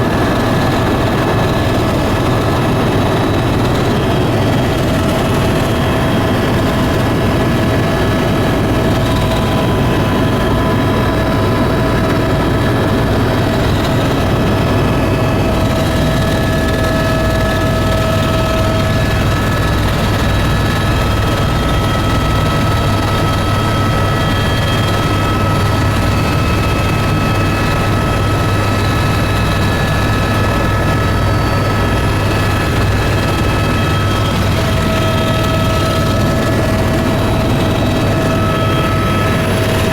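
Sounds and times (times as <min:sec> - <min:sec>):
aircraft propellers droning: 0:00.0 - 0:39.9.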